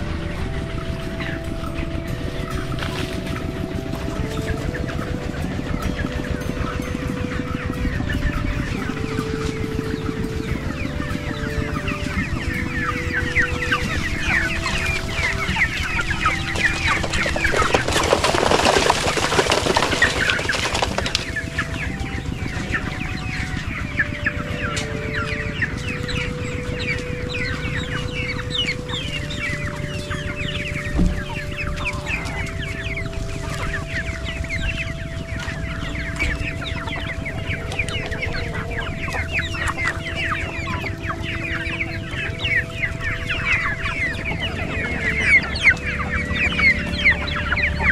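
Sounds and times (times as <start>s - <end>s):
chickens clucking and cheeping: 0.0s - 47.9s
faint steady tones: 0.0s - 47.9s.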